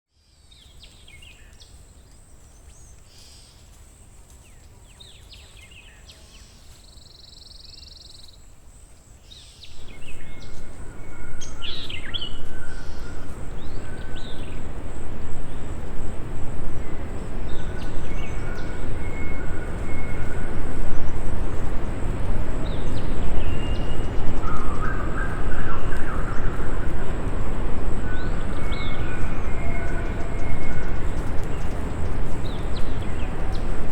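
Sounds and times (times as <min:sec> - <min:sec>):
high insect hum: 0:00.2 - 0:33.9
small birds chirping: 0:00.3 - 0:33.9.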